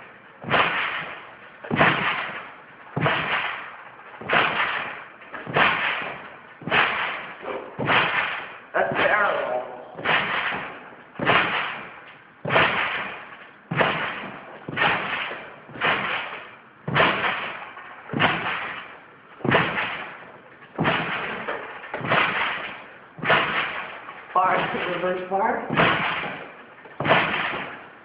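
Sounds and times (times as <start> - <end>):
sharp thumps with rushing fade: 0.0 - 28.0.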